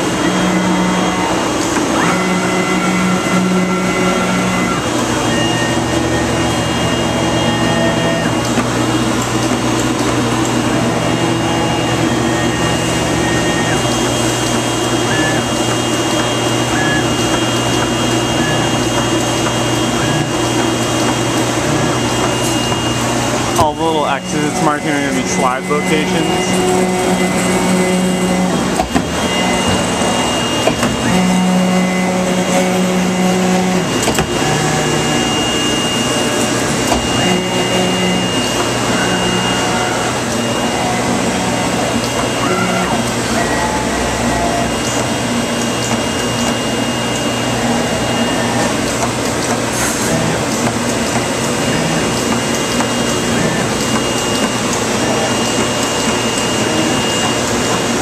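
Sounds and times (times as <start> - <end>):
plotter head humming: 0.0 - 58.0
steady rushing machine noise: 0.0 - 58.0.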